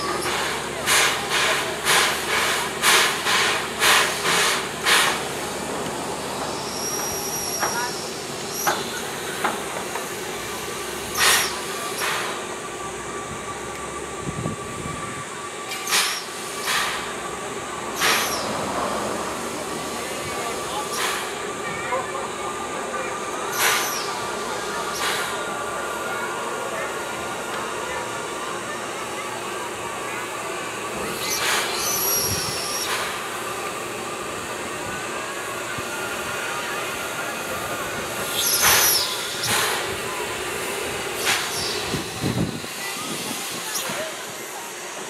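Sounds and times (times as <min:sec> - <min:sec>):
sharp puffs of steam: 0:00.0 - 0:12.7, 0:14.3 - 0:21.6, 0:23.4 - 0:45.0
steady steam hiss: 0:00.0 - 0:45.0.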